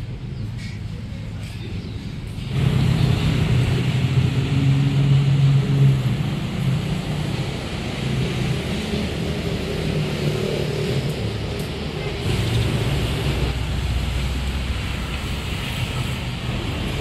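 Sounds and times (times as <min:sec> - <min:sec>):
street traffic: 0:00.0 - 0:17.0
vehicle engine running: 0:02.4 - 0:17.0.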